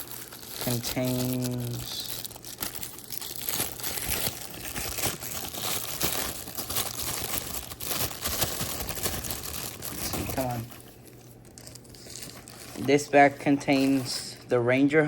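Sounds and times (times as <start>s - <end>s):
plastic bag crinkling: 0.0s - 14.5s.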